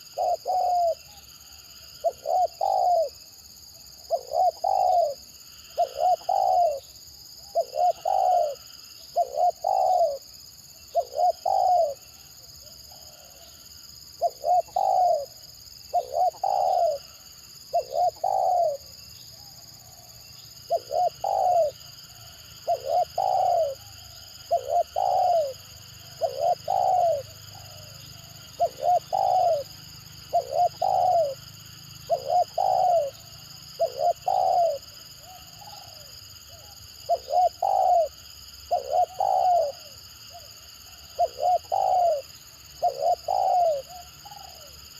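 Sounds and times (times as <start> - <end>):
dove cooing: 0.0 - 1.3, 1.9 - 3.3, 3.9 - 44.9.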